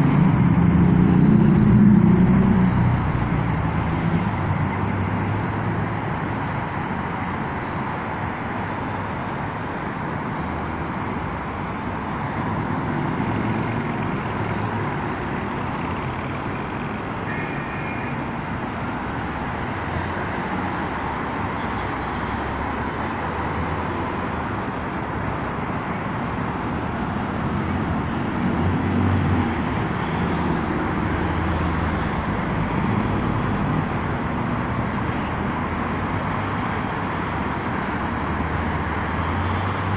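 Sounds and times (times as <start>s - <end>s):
city street traffic: 0.0s - 39.9s
heavy vehicles rumbling: 0.0s - 39.9s.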